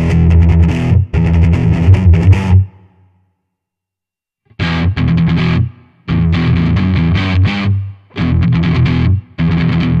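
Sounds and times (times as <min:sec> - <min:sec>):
distorted electric guitar chords: 0:00.0 - 0:03.0, 0:04.5 - 0:10.0.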